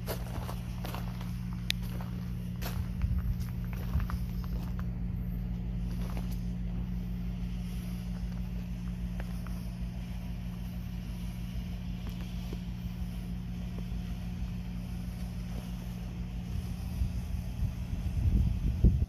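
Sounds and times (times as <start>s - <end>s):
low engine hum: 0.0s - 19.0s
low rumble: 0.0s - 19.0s.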